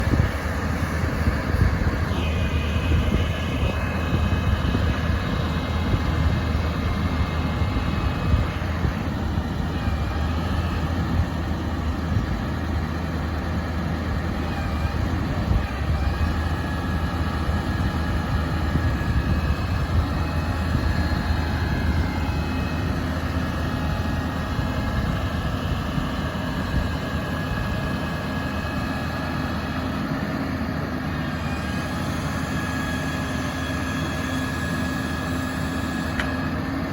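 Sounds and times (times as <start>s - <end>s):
faint wavering whines: 0.0s - 30.0s
truck engine running: 0.0s - 36.9s.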